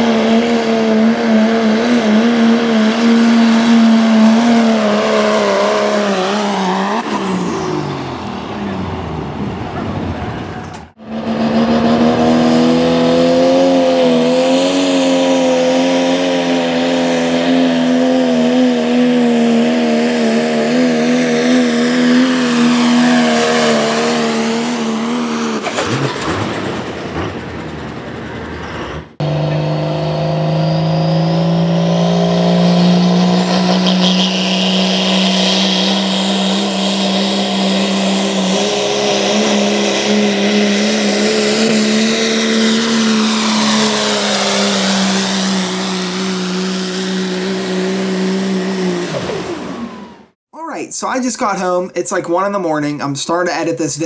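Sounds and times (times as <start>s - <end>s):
diesel truck engines revving high: 0.0s - 54.0s.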